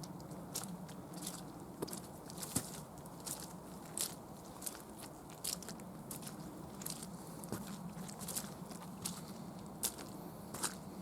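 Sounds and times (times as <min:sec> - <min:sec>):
footsteps crunching on forest path: 0:00.5 - 0:11.0.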